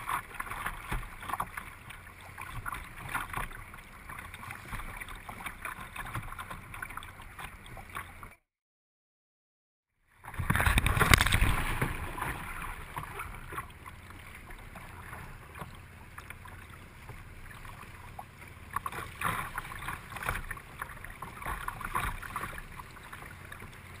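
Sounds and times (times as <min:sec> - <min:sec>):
water splashing against kayak: 0:00.0 - 0:08.4, 0:10.1 - 0:24.0.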